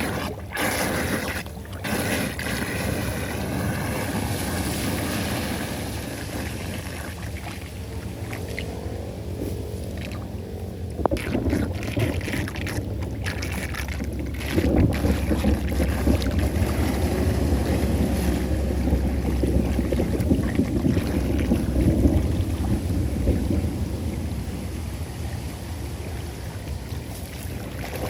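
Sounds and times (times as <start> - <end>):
floodwater rushing down drain: 0.0 - 28.0.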